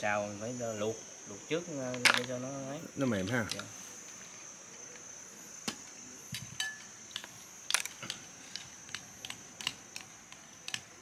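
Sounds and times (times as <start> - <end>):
steady high-pitched whine: 0.0 - 11.0.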